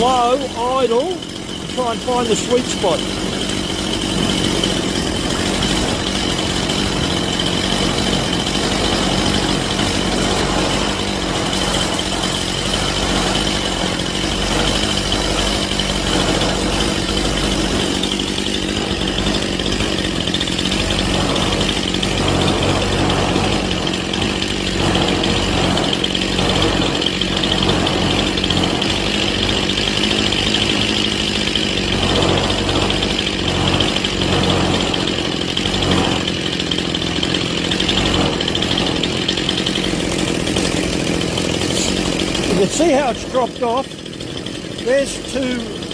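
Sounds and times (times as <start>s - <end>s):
chainsaw engine idling: 0.0s - 45.9s.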